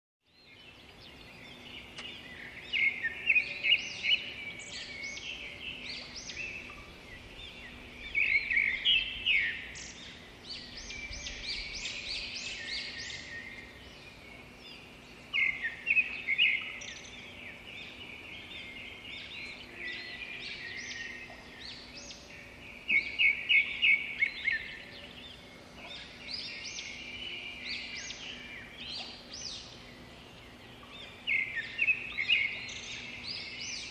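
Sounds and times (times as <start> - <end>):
blackbirds calling and chattering: 0.2 - 33.9.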